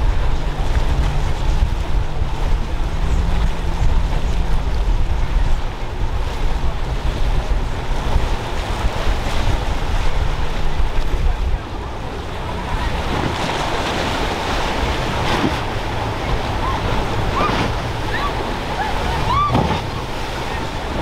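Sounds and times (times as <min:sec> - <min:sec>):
choppy water splashing: 0:00.0 - 0:21.0
outboard motors running: 0:00.0 - 0:21.0
wind buffeting microphone: 0:00.0 - 0:21.0.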